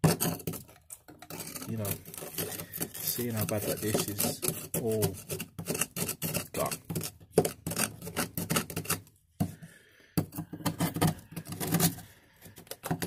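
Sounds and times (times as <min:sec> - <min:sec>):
hard objects clicking and clattering: 0:00.0 - 0:13.0.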